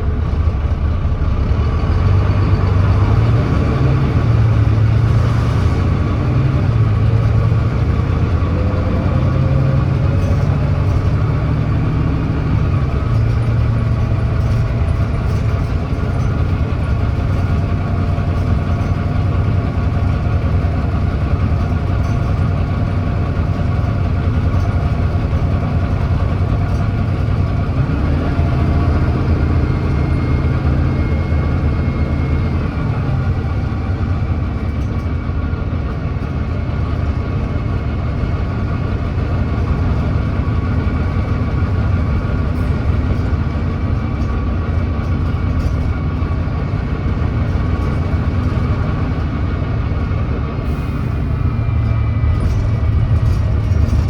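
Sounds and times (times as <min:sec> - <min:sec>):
bus diesel engine under load: 0:00.0 - 0:54.0.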